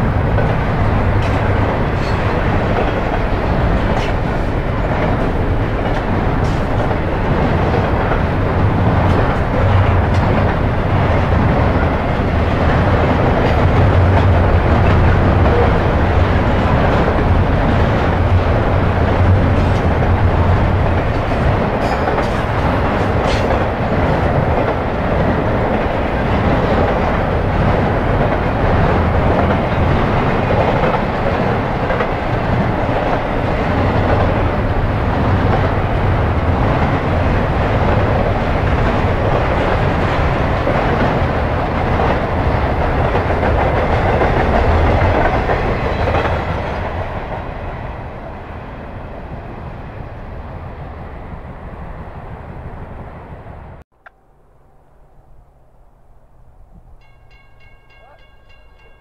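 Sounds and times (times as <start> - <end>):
freight train cars rolling past: 0.0 - 53.8.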